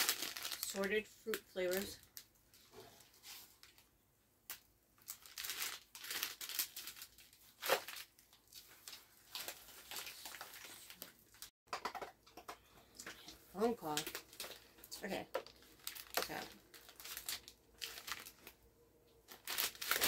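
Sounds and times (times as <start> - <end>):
plastic packaging crinkling: 0.0 - 2.6, 5.0 - 11.5, 13.1 - 20.0.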